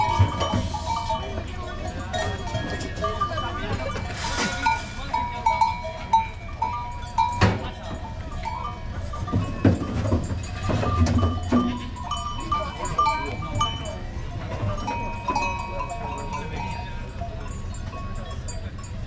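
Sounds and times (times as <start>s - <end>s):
goat bells clanking: 0.0s - 19.0s.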